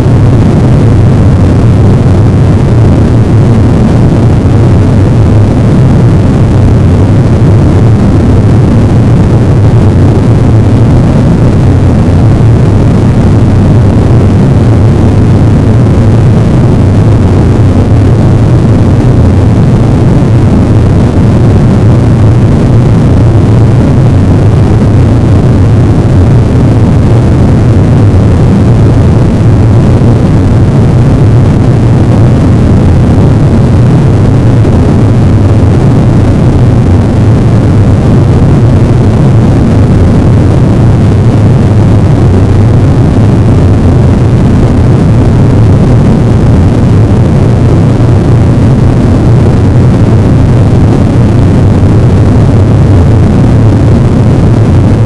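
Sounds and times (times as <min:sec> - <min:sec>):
distorted static noise wall: 0:00.0 - 0:55.0.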